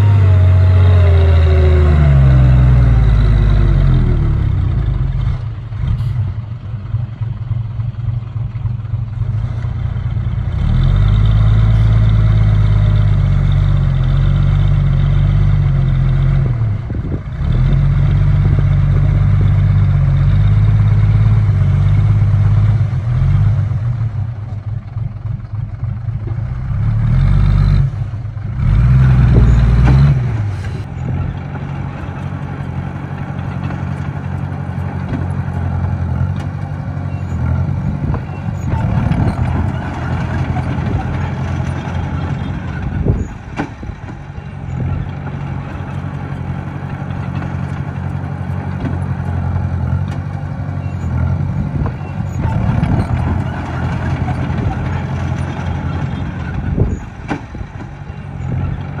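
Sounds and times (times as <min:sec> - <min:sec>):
bulldozer diesel engine revving: 0:00.0 - 0:07.4, 0:08.8 - 0:59.0.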